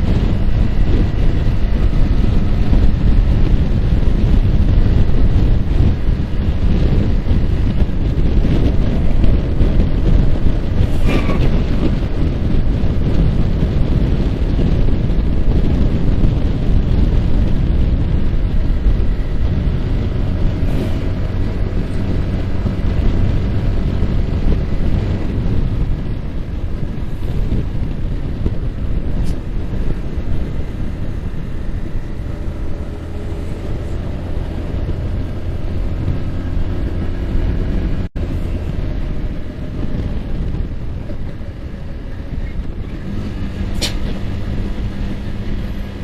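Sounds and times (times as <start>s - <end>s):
motorcycle engine running: 0.0s - 46.0s
wind buffeting on microphone: 0.0s - 46.0s.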